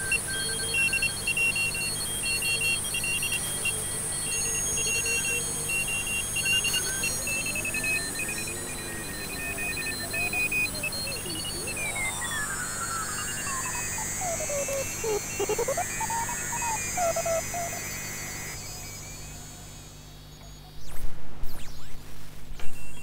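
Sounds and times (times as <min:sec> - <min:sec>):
morse code beeps: 0:00.0 - 0:19.5
radio whistles gliding in pitch: 0:00.0 - 0:22.0
radio static hiss: 0:00.7 - 0:23.0.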